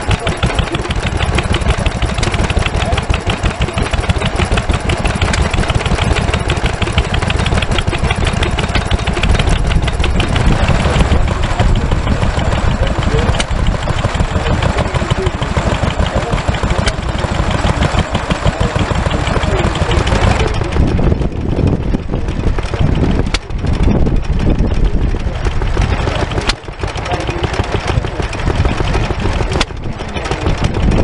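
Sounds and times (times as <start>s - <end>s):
stationary engines running: 0.0s - 31.0s.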